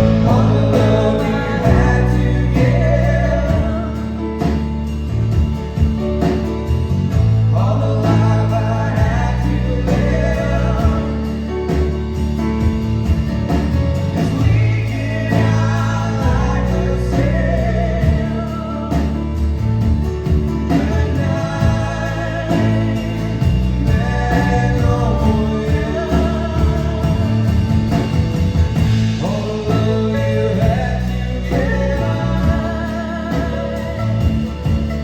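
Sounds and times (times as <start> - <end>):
person singing: 0.0 - 4.8, 7.3 - 12.0, 14.2 - 19.6, 20.6 - 28.0, 29.0 - 35.0
bass guitar: 0.0 - 35.0
guitar: 0.0 - 35.0.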